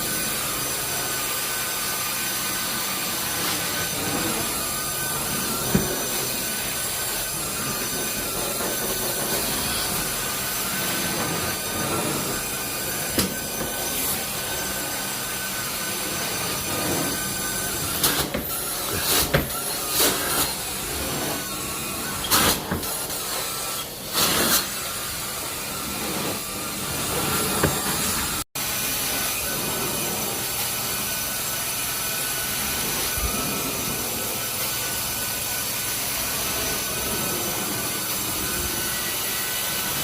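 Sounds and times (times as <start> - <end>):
vacuum motor whining: 0.0 - 40.0.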